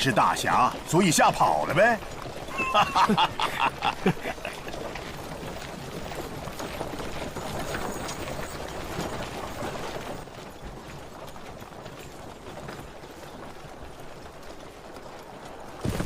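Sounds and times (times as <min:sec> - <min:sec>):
horse hooves and rattling gear: 0:00.0 - 0:16.0.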